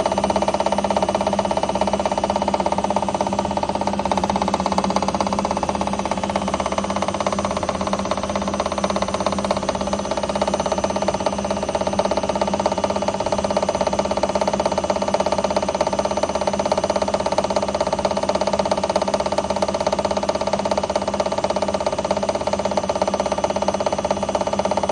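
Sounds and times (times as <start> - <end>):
washing machine spinning: 0.0 - 24.9.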